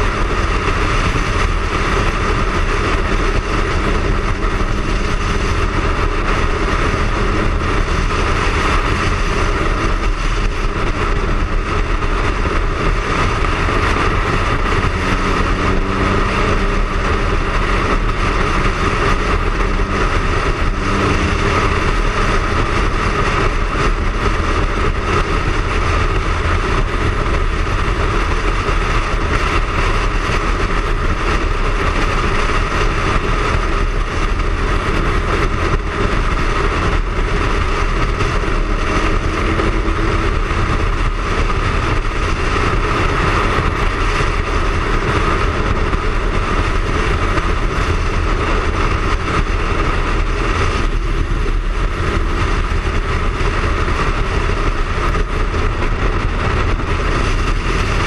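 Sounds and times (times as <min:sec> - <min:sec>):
motorcycle engine running: 0:00.0 - 0:58.0
wind rushing over camera: 0:00.0 - 0:58.0.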